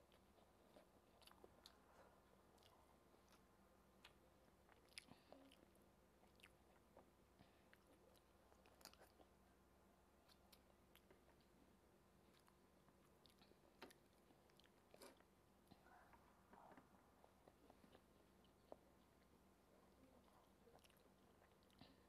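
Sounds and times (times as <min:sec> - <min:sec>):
person chewing: 0:00.0 - 0:09.4, 0:10.2 - 0:11.6, 0:12.2 - 0:19.4, 0:20.7 - 0:22.0.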